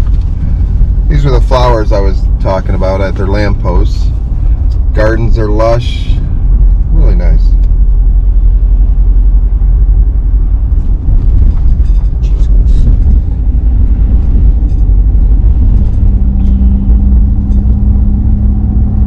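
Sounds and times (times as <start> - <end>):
car road rumble: 0.0 - 19.0
steady hum: 0.0 - 19.0.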